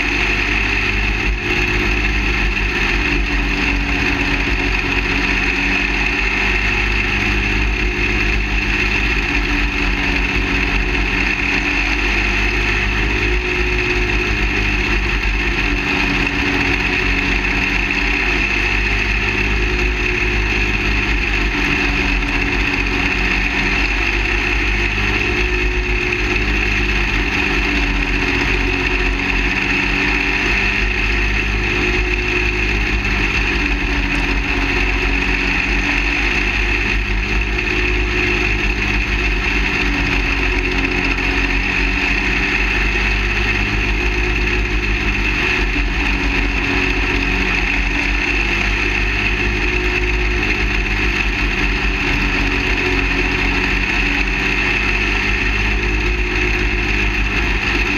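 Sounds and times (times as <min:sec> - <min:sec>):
small race car engine: 0:00.0 - 0:57.9.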